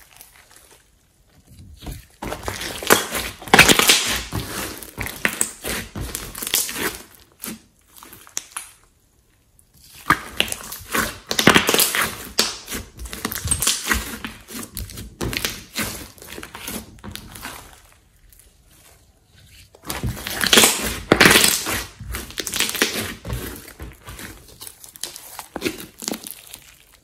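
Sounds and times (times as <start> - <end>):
hands squeezing sticky slime: 0.0 - 8.8, 9.8 - 27.0.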